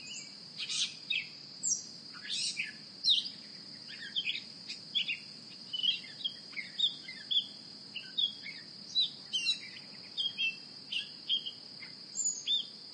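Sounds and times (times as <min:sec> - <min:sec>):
birds chirping: 0:00.0 - 0:12.7
high-pitched insect trill: 0:00.0 - 0:12.9.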